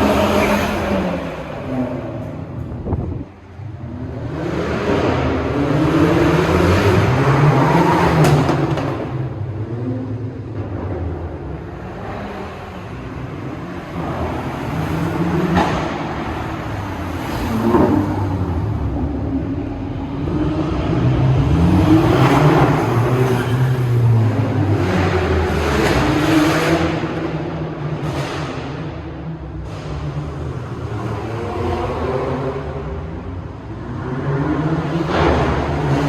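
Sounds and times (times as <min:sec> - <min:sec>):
sports car engines revving: 0:00.0 - 0:36.0.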